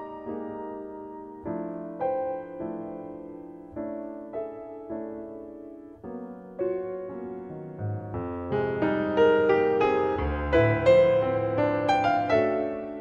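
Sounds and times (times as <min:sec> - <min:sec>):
slow solo piano chords: 0:00.0 - 0:13.0.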